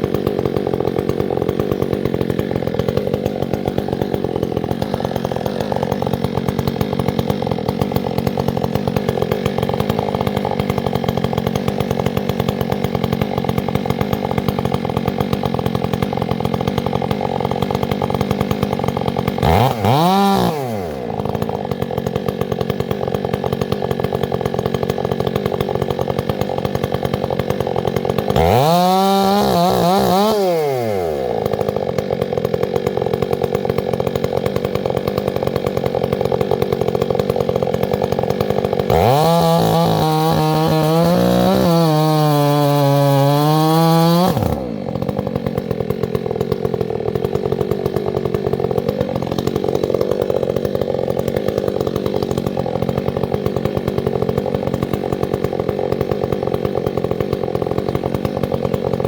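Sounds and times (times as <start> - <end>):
chainsaw running and revving: 0.0 - 59.0.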